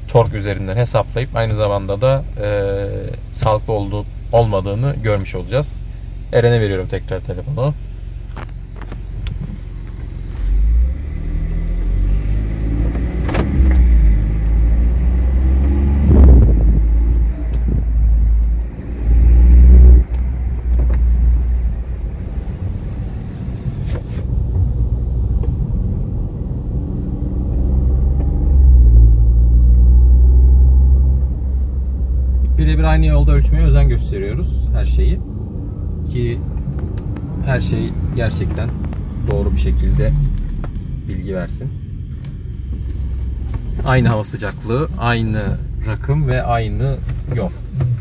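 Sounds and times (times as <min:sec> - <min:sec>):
car engine accelerating: 0:07.9 - 0:48.0.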